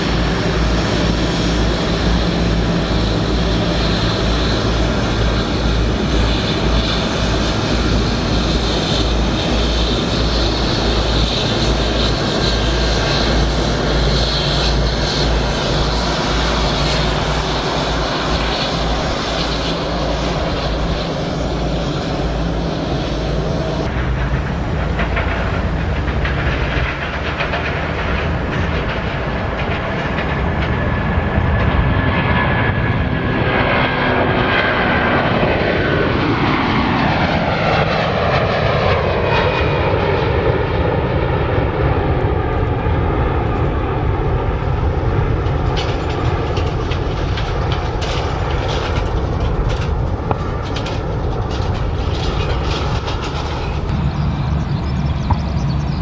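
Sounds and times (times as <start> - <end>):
jet engines passing with whine: 0.0 - 56.0
steady low rumble: 0.0 - 56.0.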